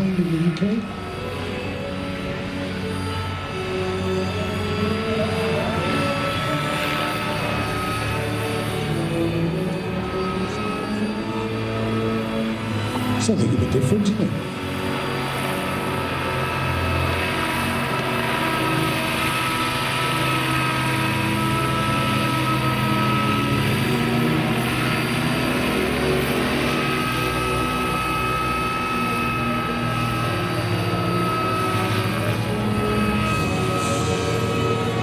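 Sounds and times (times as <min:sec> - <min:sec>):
model helicopter rotor and motor: 0:00.0 - 0:35.0.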